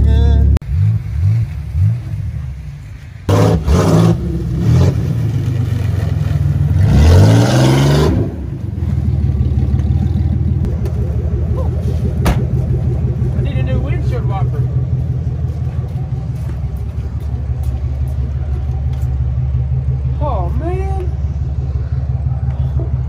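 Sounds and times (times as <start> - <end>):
car engine revving: 3.3 - 23.0.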